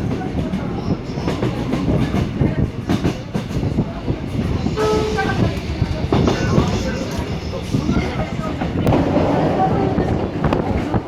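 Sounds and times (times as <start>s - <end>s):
train wheels clattering over rails: 0.0s - 11.0s.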